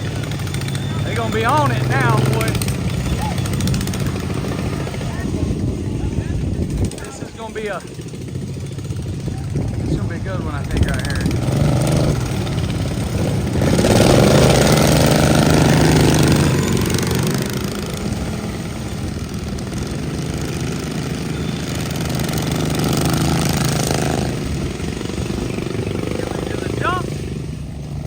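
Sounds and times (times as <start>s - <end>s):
lawn mower engines racing: 0.0s - 28.0s.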